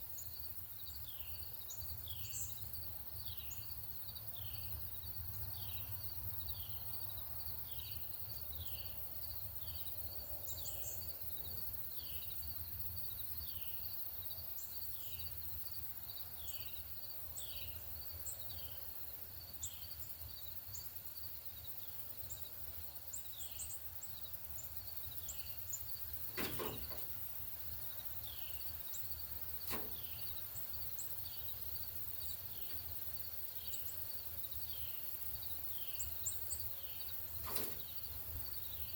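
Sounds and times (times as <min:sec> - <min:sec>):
small birds chipping: 0:00.0 - 0:38.9.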